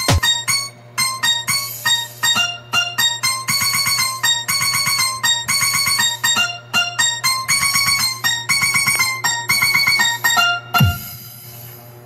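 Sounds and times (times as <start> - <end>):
plucked-string music: 0.0 - 11.5.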